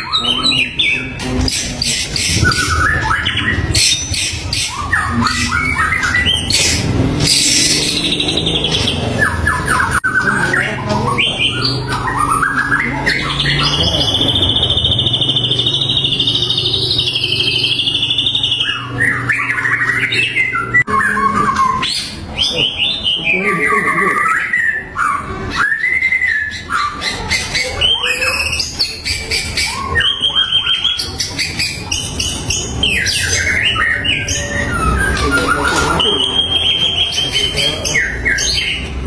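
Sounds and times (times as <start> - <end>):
harsh rattling bird notes: 0.0 - 39.0
wavering bird trill: 0.0 - 39.0
bird singing whistled phrases: 1.8 - 38.9.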